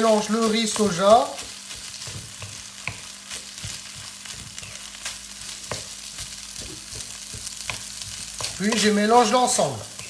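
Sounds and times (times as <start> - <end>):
rice sizzling in a wok: 0.0 - 10.0
spatula tapping a pan: 0.4 - 10.0.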